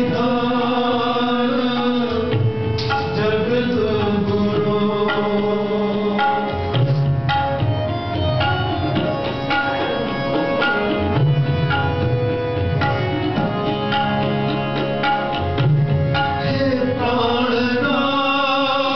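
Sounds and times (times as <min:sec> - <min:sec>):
harmonium notes: 0:00.0 - 0:18.9
tabla drumming: 0:00.0 - 0:18.9.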